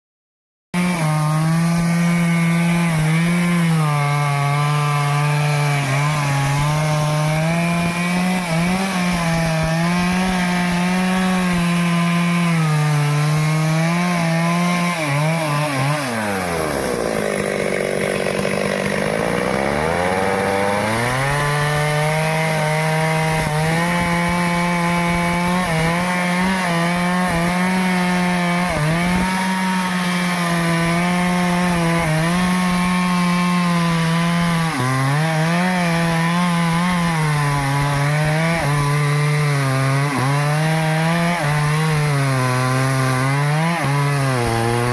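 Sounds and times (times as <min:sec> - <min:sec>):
chainsaw cutting wood: 0:00.8 - 0:44.9.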